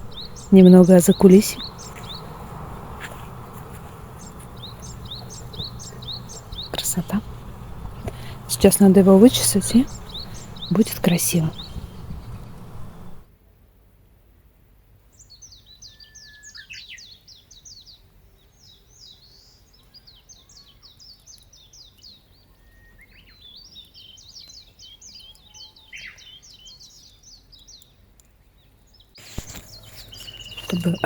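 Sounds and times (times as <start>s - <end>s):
songbird singing: 0.0s - 13.2s, 15.2s - 31.0s.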